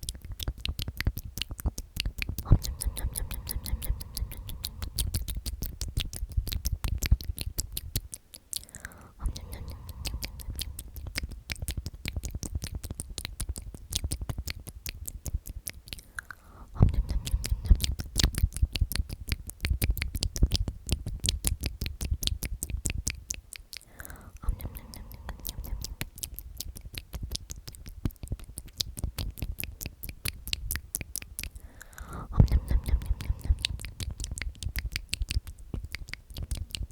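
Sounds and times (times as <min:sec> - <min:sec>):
soft low rumble: 0:00.0 - 0:08.1, 0:09.1 - 0:15.5, 0:16.5 - 0:23.1, 0:24.0 - 0:36.9.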